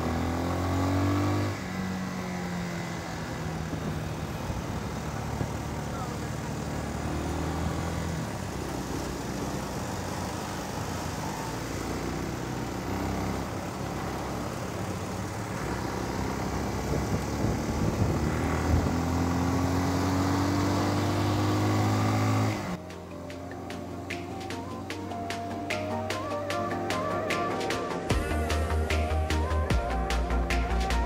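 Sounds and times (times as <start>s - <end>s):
motorcycle engine accelerating: 0.0s - 31.0s
road noise: 0.0s - 31.0s.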